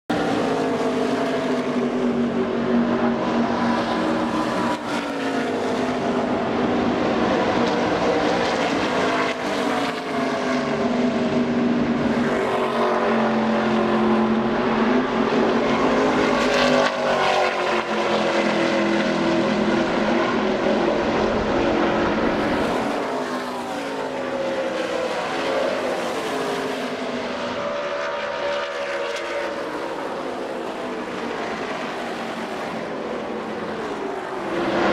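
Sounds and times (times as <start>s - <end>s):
race car engines passing: 0.1s - 34.9s.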